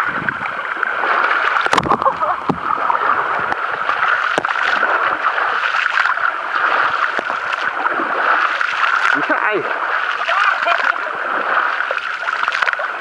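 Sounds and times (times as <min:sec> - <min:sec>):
brief splashes: 0:00.0 - 0:13.0
seawater splashing and sloshing: 0:00.0 - 0:13.0
steady wash of water: 0:00.0 - 0:13.0.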